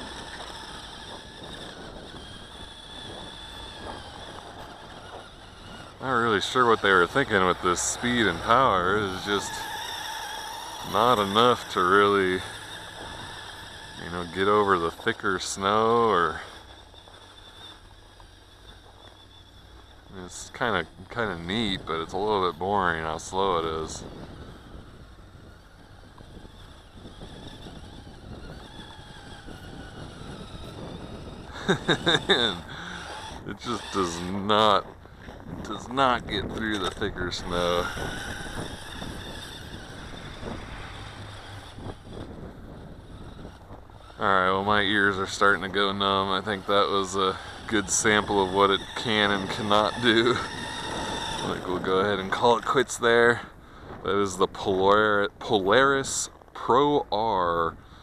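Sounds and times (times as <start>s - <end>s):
toy electric motor whining: 0.0s - 53.5s
wind rumble on microphone: 0.0s - 58.0s.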